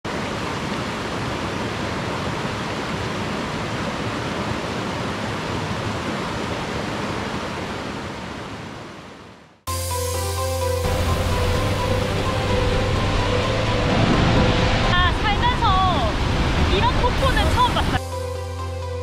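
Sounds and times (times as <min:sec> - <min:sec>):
creek rushing over rocks: 0:00.1 - 0:09.3, 0:10.8 - 0:18.0.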